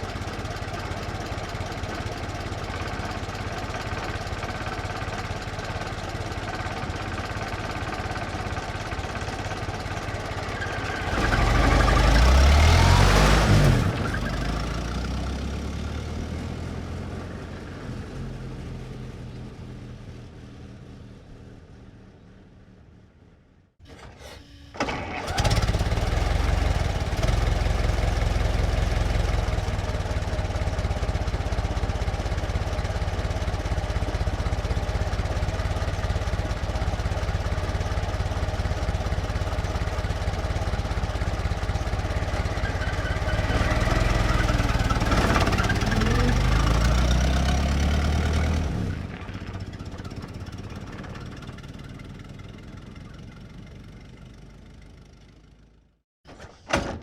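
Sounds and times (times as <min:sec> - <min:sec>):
old truck engine idling and revving: 0:00.0 - 0:23.4, 0:25.0 - 0:55.9.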